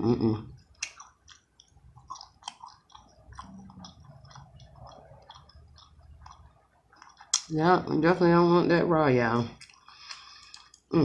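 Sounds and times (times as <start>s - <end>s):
chewing food: 0.4s - 8.4s, 9.2s - 11.0s.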